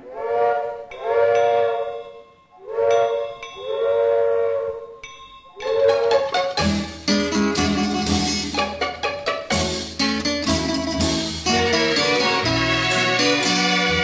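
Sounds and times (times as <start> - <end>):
whistle-like melody instrument: 0.3 - 14.0.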